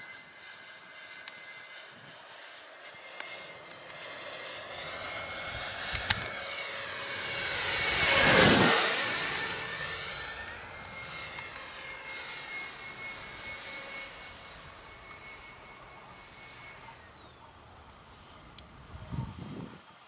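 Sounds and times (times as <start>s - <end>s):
electric ducted fans whining: 0.0s - 19.8s.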